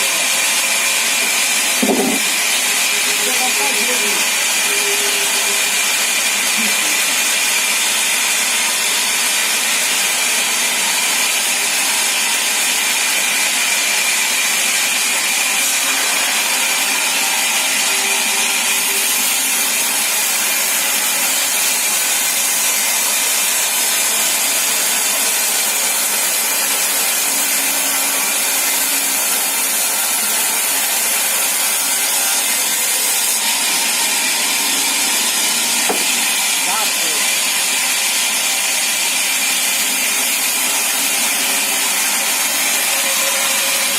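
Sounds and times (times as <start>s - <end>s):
saw blade cutting log: 0.0s - 43.9s.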